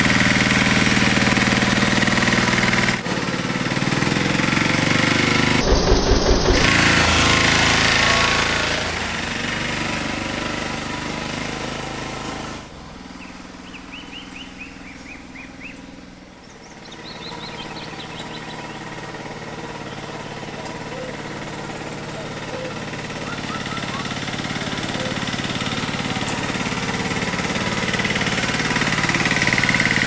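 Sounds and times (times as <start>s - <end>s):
diesel tiller engine knocking: 0.0s - 30.0s.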